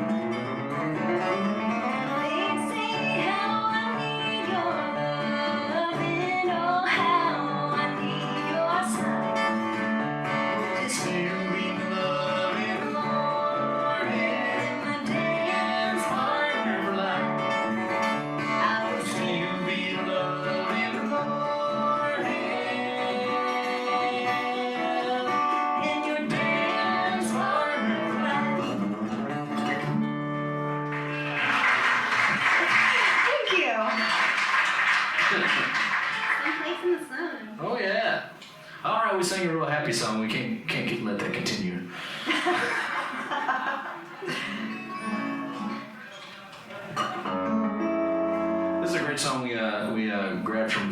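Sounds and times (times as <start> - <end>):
strummed acoustic guitar: 0.0 - 32.9, 38.4 - 50.9.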